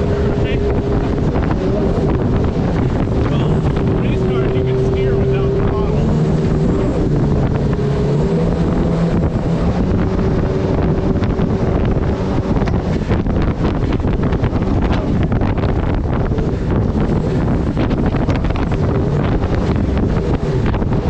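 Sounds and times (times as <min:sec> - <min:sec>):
boat engine running: 0:00.0 - 0:21.0
water noise: 0:00.0 - 0:21.0
wind buffeting microphone: 0:00.0 - 0:21.0.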